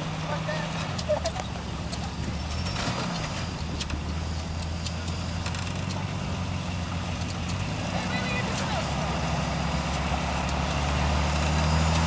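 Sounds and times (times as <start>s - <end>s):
truck engine running low: 0.0s - 12.0s.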